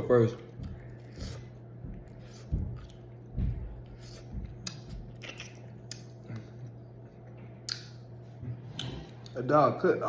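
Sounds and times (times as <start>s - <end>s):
person chewing food: 0.0s - 9.4s.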